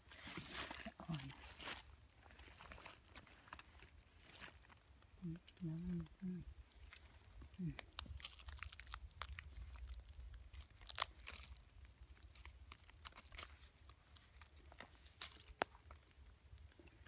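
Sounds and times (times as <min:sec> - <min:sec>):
dry leaves and twigs crackling: 0:00.0 - 0:17.0.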